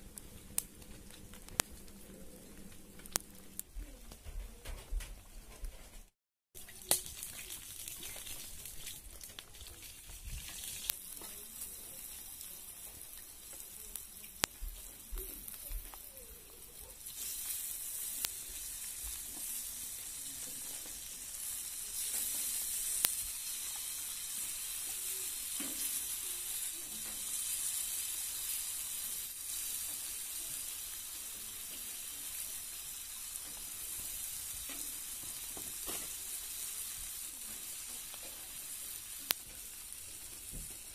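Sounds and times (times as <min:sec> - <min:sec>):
sizzling in a metal pan: 0:00.0 - 0:04.8, 0:06.6 - 0:40.9.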